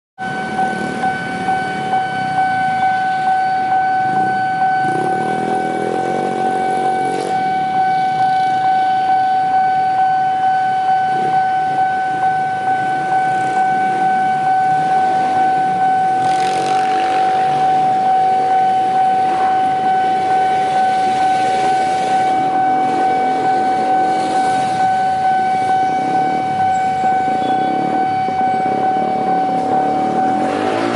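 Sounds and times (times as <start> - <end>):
level crossing alarm tone: 0.2 - 30.9
passing traffic: 0.2 - 30.9.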